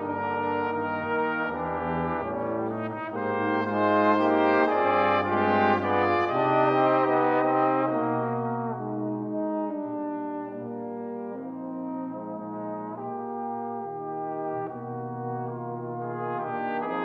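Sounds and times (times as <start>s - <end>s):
brass quintet playing slow ballad: 0.0s - 17.0s.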